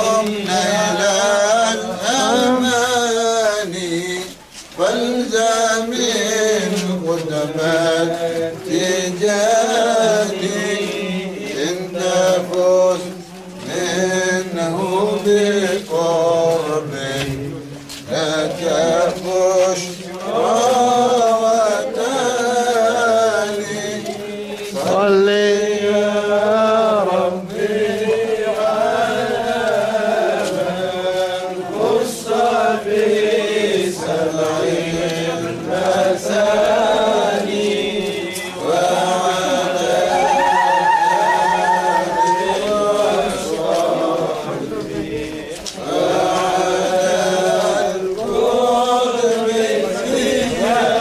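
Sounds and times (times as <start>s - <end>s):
man singing ornamented chant: 0.0s - 51.0s.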